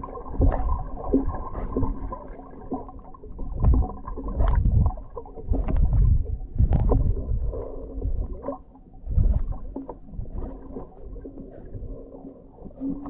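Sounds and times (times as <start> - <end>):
underwater water rumbling: 0.0 - 13.0.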